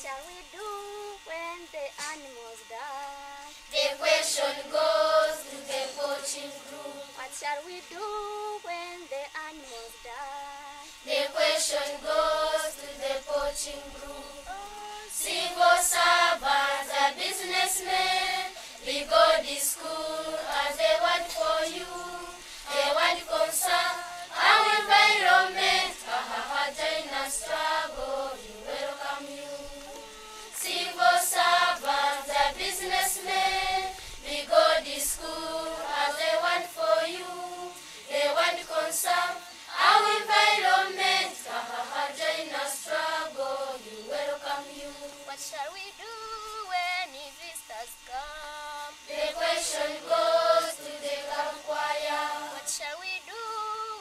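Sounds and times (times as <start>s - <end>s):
children's choir singing: 3.7s - 8.8s, 11.0s - 54.0s.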